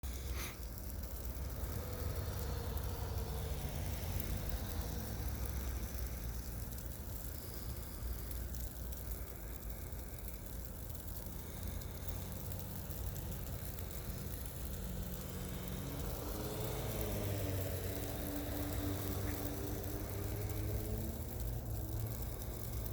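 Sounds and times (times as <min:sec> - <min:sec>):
car engine and road noise: 0:00.6 - 0:09.9, 0:10.6 - 0:22.9.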